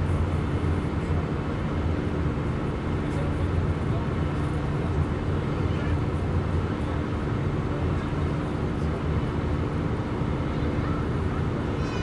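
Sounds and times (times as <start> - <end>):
airliner cabin engine rumble: 0.0 - 12.0
constant hum: 0.0 - 12.0.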